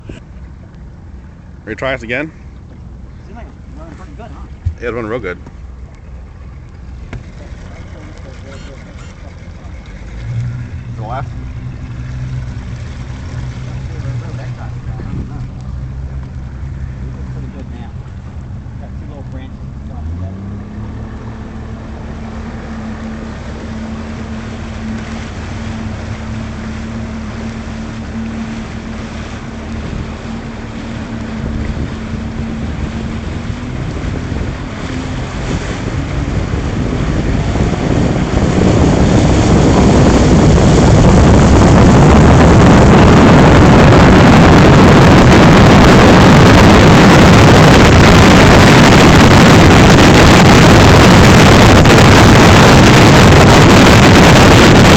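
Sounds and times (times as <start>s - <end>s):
boat motor running: 0.0s - 54.9s
water rushing: 0.0s - 54.9s
wind on microphone: 4.4s - 19.0s, 19.7s - 54.9s.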